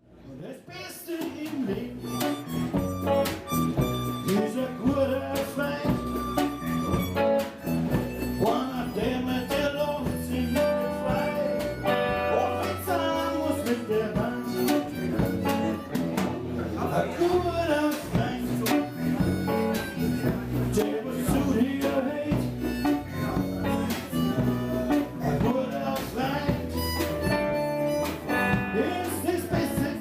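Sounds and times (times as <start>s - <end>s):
acoustic guitar strumming: 1.3s - 30.0s
harmonica melody: 1.9s - 16.8s, 17.6s - 30.0s.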